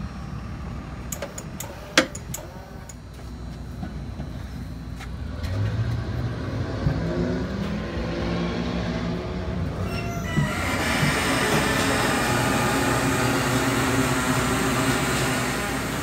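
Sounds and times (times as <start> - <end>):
machine hum and squeal: 0.0 - 8.3, 8.9 - 16.0.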